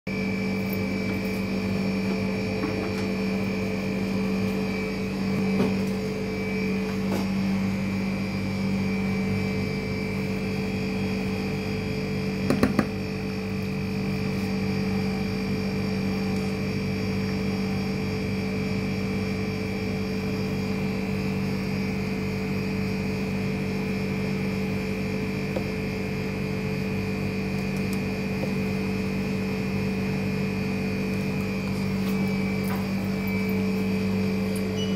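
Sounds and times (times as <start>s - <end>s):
machine hum: 0.1s - 34.9s.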